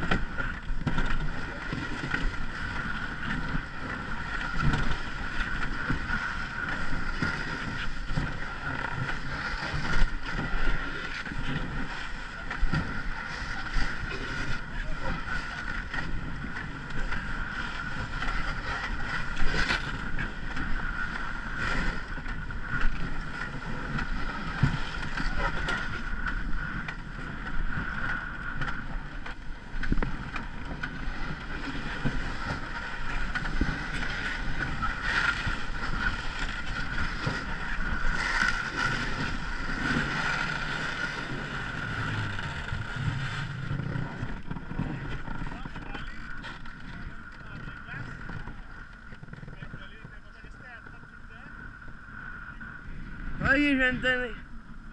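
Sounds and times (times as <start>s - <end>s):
water: 0.0s - 54.9s
wind: 0.0s - 54.9s.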